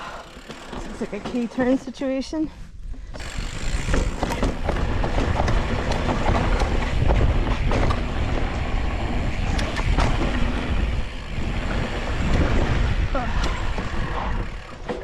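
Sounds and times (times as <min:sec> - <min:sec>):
mountain bike rattling over rocks: 0:00.0 - 0:01.9, 0:03.1 - 0:15.0.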